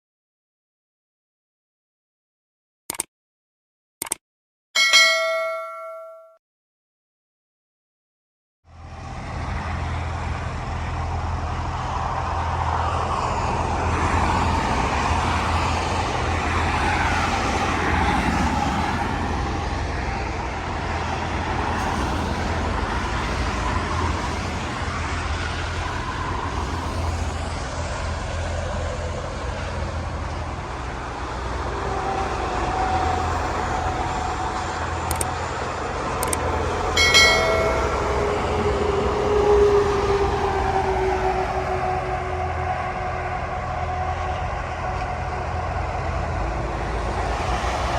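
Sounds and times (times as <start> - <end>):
low engine hum: 8.7 - 47.9
tyres and traffic rushing: 8.7 - 47.9
vehicles passing: 8.7 - 47.9.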